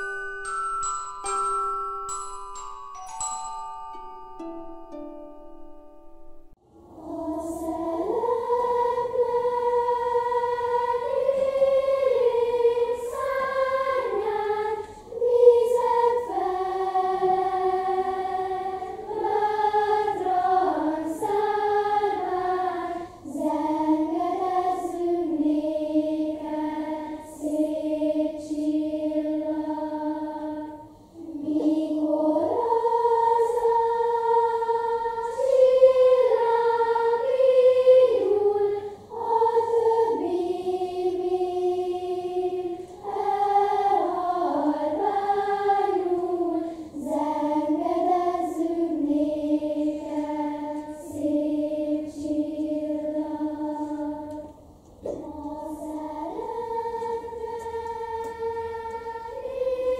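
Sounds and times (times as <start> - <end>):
children's choir singing: 0.0 - 5.1, 6.6 - 59.9.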